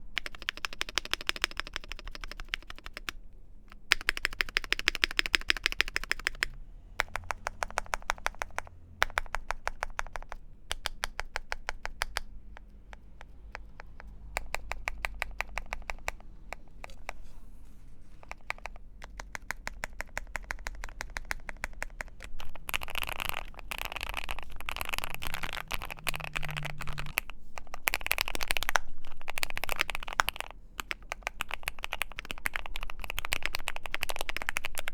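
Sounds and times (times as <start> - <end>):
mechanical keyboard typing: 0.0 - 17.2, 18.2 - 34.9.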